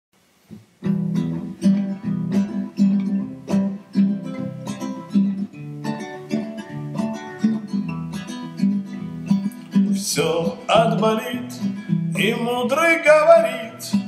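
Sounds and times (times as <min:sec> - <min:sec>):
acoustic guitar strumming chords: 0:00.5 - 0:14.0.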